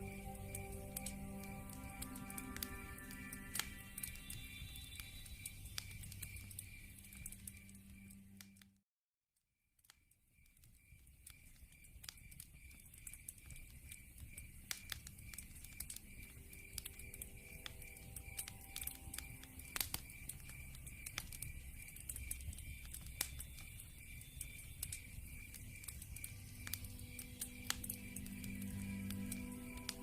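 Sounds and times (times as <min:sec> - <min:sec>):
insect chirping: 0:00.0 - 0:08.5, 0:10.0 - 0:30.0
wood fire crackling and popping: 0:00.0 - 0:08.6, 0:10.4 - 0:30.0.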